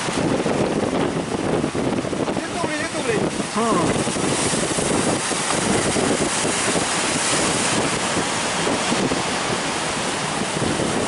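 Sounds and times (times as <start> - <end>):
breaking surf: 0.0 - 11.0
wind buffeting microphone: 0.0 - 11.0.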